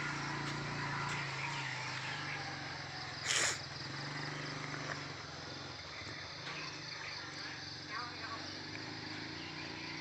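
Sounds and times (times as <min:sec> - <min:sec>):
faint insect chirping: 0:00.0 - 0:10.0
low engine-like hum: 0:00.0 - 0:10.0.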